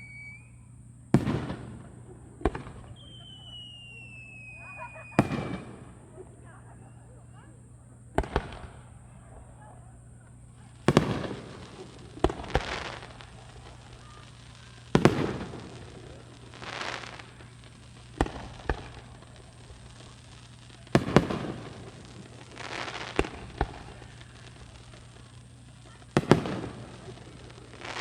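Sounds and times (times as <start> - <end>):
fireworks crackle: 0.0 - 28.0
fireworks booms: 1.1 - 28.0.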